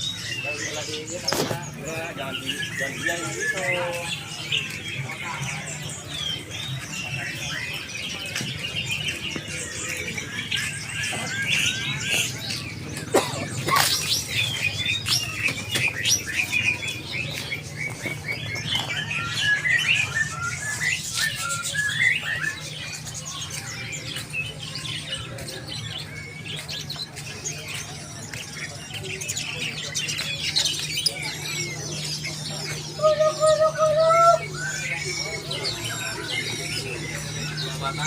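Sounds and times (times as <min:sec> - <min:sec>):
songbirds chirping: 0:00.0 - 0:38.0.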